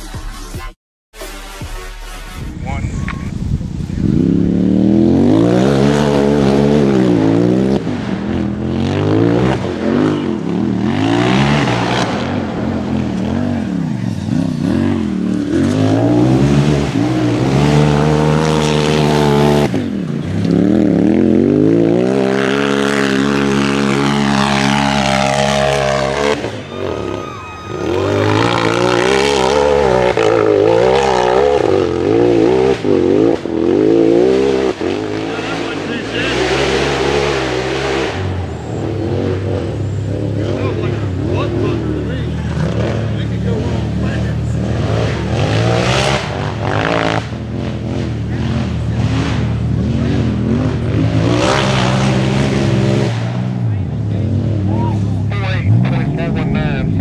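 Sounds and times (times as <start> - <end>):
engine revving hard: 3.7 - 57.0.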